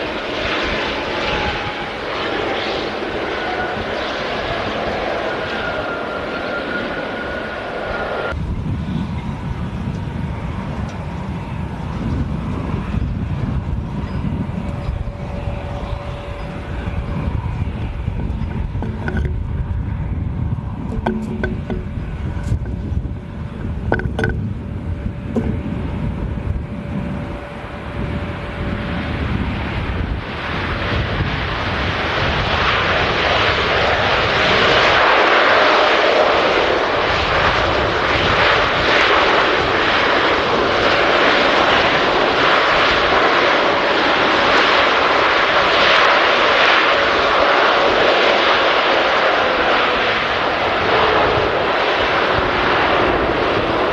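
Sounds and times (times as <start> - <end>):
faint jet whine: 0.0 - 53.9
jet engine roar: 0.0 - 53.9.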